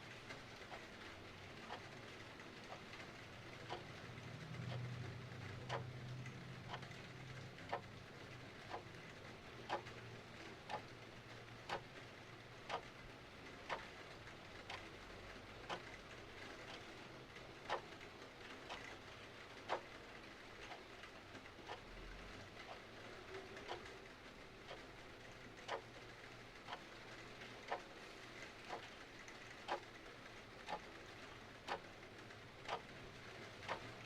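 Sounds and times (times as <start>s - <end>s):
mechanical clock ticking: 0.2s - 34.0s.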